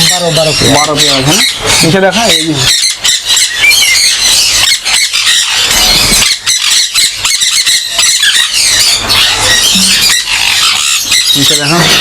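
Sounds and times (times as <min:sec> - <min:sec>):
parrots screeching: 0:00.0 - 0:12.0.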